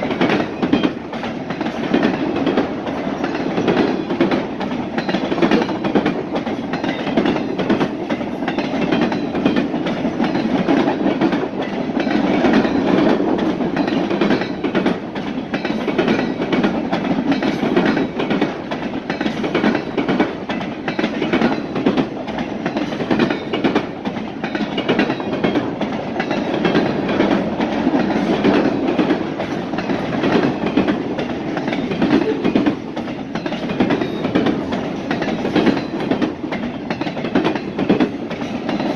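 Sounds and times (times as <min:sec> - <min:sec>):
freight train cars rolling past: 0:00.0 - 0:38.9
wheels clicking over rail joints: 0:00.0 - 0:38.9.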